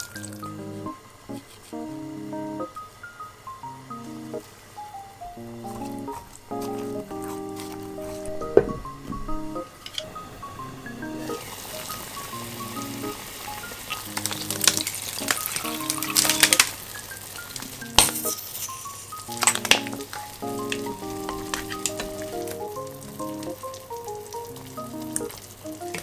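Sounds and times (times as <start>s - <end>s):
light background music: 0.0s - 26.0s.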